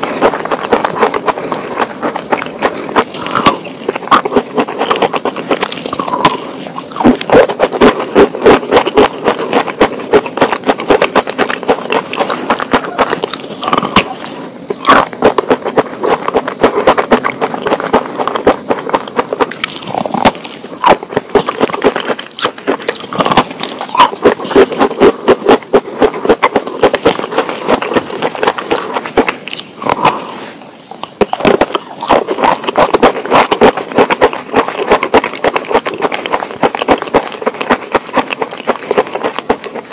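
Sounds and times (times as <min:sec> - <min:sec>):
crunching and chewing brittle food: 0:00.0 - 0:39.9.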